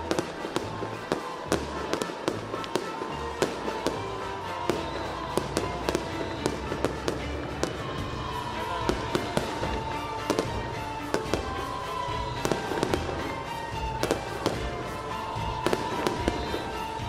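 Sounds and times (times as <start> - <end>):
fireworks cracking and banging: 0.0 - 17.0.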